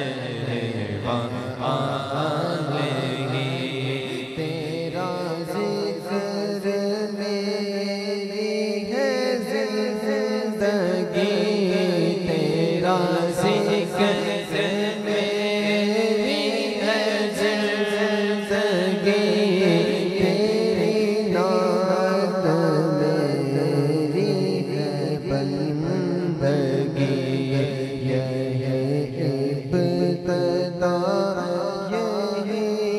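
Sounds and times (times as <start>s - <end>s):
man chanting into a microphone: 0.0s - 32.9s.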